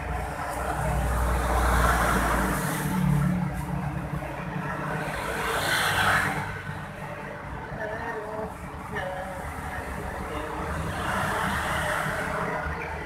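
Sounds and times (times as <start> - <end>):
motorcycles passing: 0.0 - 13.0.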